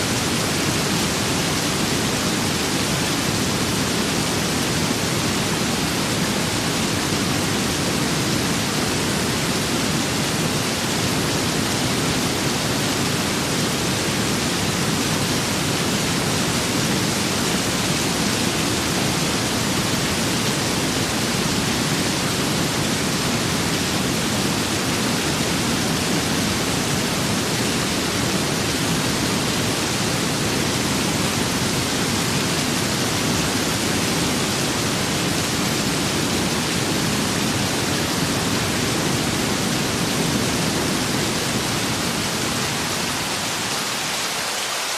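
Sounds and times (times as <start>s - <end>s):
rain with wind: 0.0s - 44.9s.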